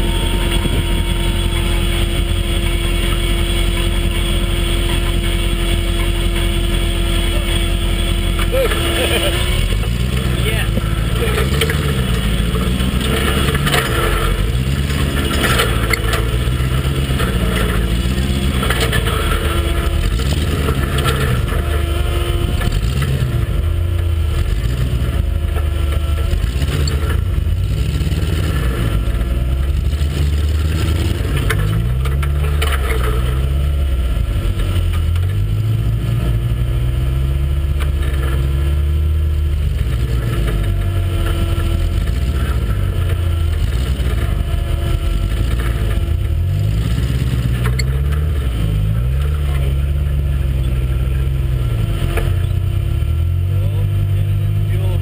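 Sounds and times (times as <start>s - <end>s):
buggy engine revving: 0.0s - 55.0s.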